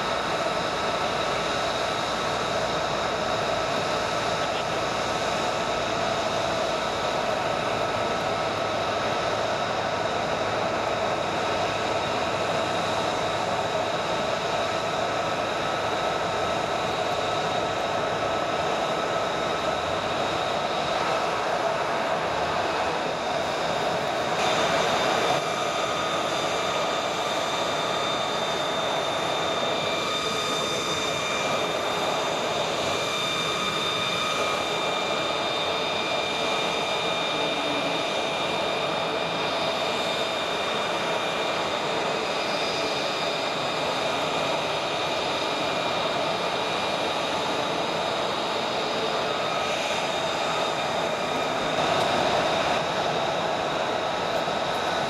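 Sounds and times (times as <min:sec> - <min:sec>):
jet engine idling whine: 0:00.0 - 0:55.0.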